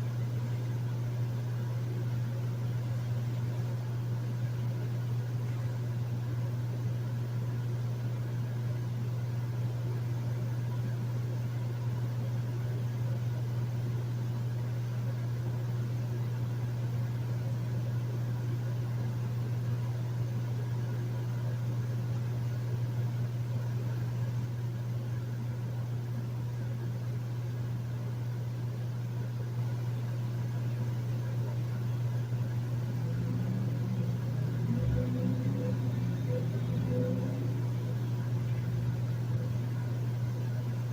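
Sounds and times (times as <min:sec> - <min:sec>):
air conditioner running: 0:00.0 - 0:40.9.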